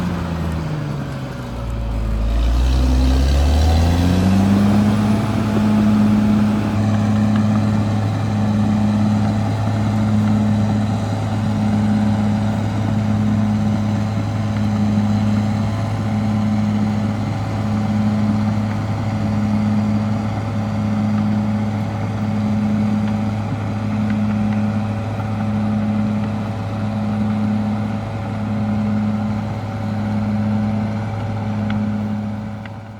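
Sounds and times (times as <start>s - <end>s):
bulldozer diesel engine running: 0.0s - 32.9s.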